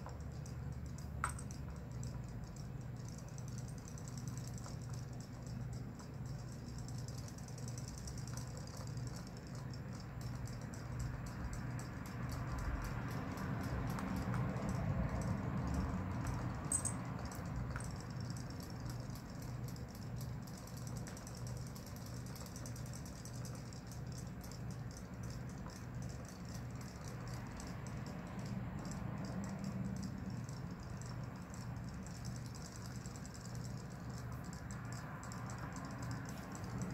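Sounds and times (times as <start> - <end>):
toy tail motors ticking buzz: 0.0 - 36.9.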